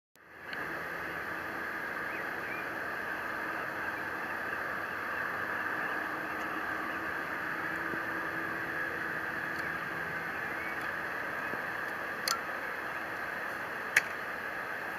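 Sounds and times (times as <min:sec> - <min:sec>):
jet engines at taxi power: 0:00.2 - 0:14.9.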